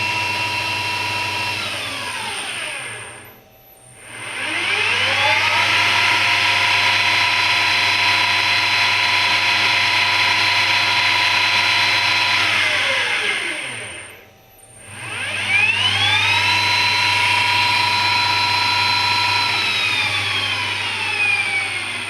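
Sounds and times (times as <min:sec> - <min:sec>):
lathe motor whining: 0:00.0 - 0:22.0.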